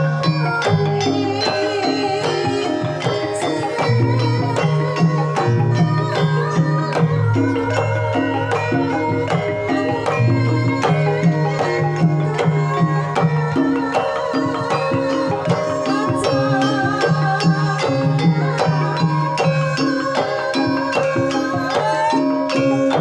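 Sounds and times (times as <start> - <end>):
bronze metallophones ringing: 0.0 - 23.0
hand drum strokes: 0.0 - 23.0.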